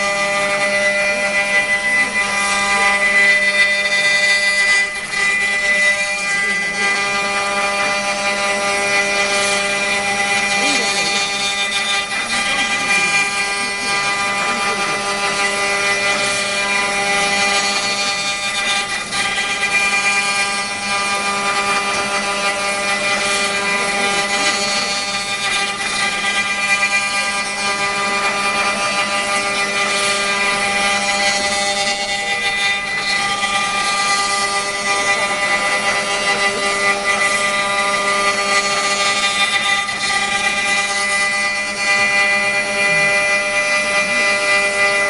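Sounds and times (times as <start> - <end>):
machine hum: 0.0 - 45.0
wood router spindles whining: 0.0 - 45.0.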